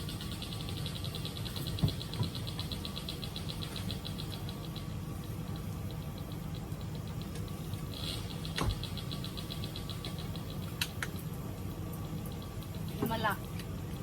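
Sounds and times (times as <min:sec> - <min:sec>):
rapid high chirping: 0:00.0 - 0:14.0.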